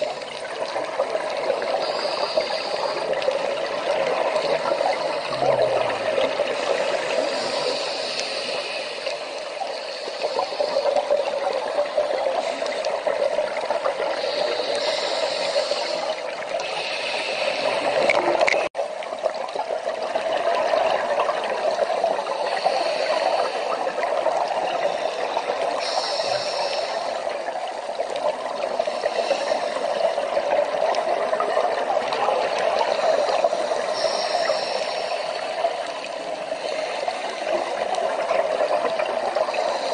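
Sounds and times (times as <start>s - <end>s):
underwater rushing: 0.0s - 39.9s.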